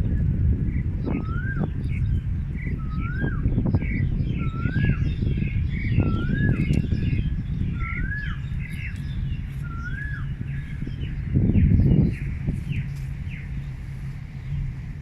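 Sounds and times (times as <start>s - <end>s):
birds chirping: 0.0s - 15.0s
low rumble: 0.0s - 15.0s
bird whistling: 1.0s - 13.5s.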